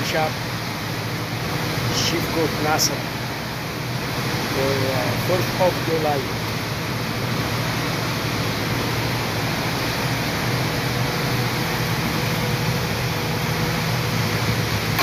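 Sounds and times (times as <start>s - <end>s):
machinery and ventilation noise: 0.0s - 15.0s.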